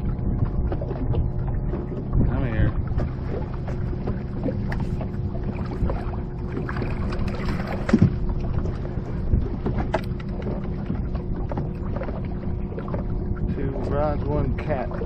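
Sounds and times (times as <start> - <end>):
boat motor humming: 0.0 - 15.0
wind on microphone: 0.0 - 15.0.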